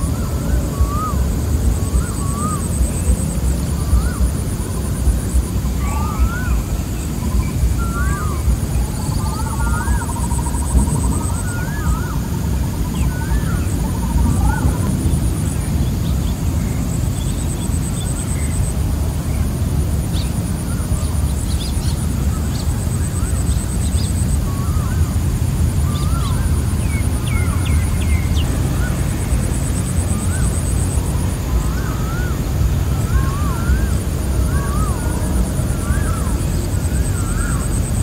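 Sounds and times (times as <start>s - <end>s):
birds whistling calls: 0.0s - 38.0s
insects trilling: 0.0s - 38.0s
steady low rumble: 0.0s - 38.0s.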